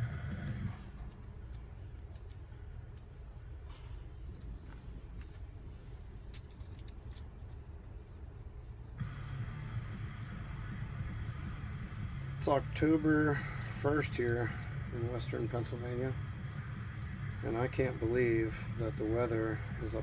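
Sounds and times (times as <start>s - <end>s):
crickets chirring: 0.0s - 20.0s
low background rumble: 0.0s - 20.0s.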